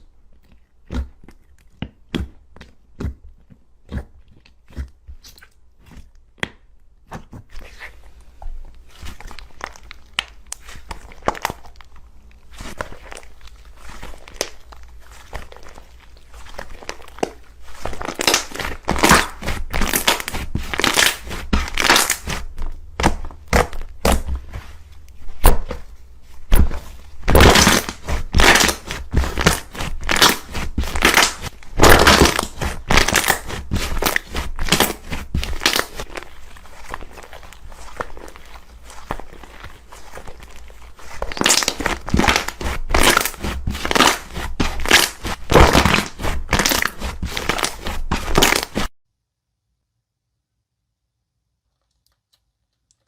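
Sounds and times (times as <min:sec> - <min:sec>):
slime crackling and squishing: 0:00.0 - 0:48.9.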